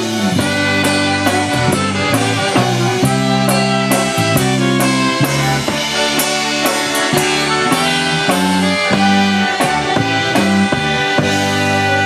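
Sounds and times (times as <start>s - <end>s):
alto saxophone melody: 0.0s - 12.0s
drum kit with cymbal strokes: 0.0s - 12.0s
keyboard bass line: 0.0s - 12.0s
trumpet melody: 0.0s - 12.0s.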